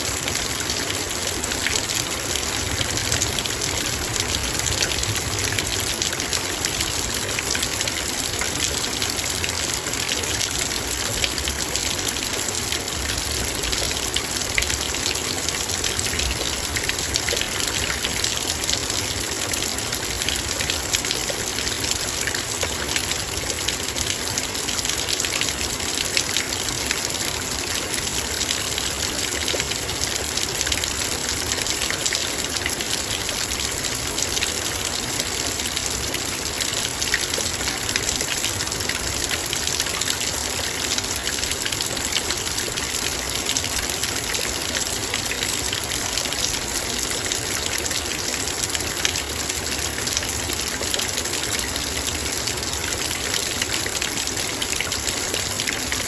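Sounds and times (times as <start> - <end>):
rain pattering on metal bowl: 0.0 - 56.0.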